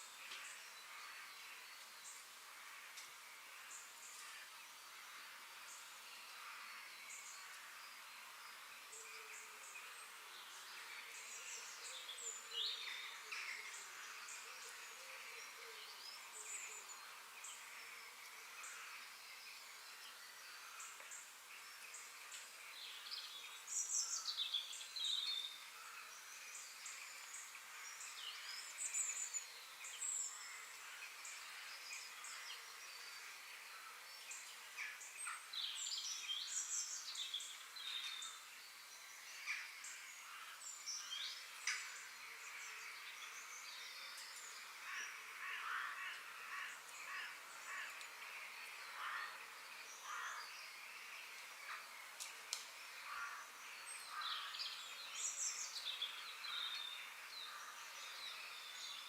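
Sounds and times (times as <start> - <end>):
birds singing and calling: 0.0 - 59.0
steady high background hiss: 0.0 - 59.0.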